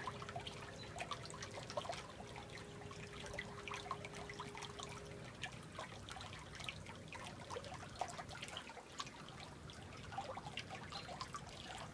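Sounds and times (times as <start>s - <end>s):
faint steady hum: 0.0s - 11.9s
water trickling and dripping: 0.0s - 11.9s.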